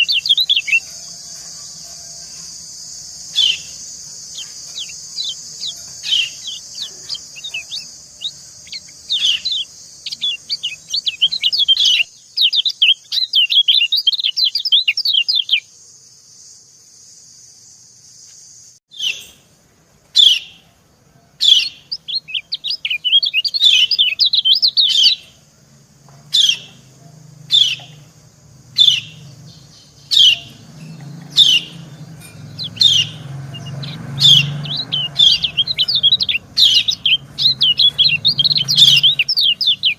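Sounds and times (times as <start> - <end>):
bird chirping calls: 0.0 - 15.7, 18.9 - 19.6, 20.2 - 20.8, 21.4 - 25.5, 26.1 - 39.9.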